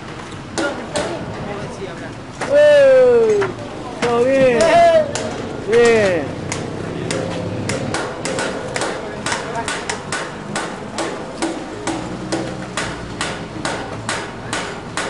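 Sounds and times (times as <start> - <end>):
hammer blows: 2.4 - 15.0.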